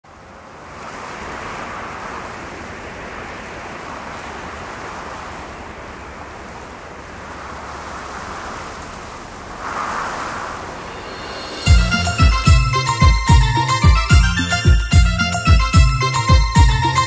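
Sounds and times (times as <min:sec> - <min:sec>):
steady rain falling: 0:00.1 - 0:14.2.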